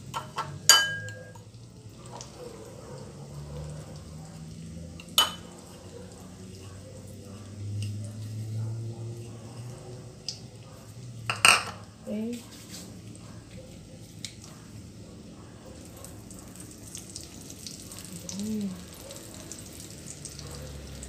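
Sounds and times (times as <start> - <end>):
food deep-frying in oil: 0.0 - 8.5, 9.1 - 15.0, 15.8 - 21.0.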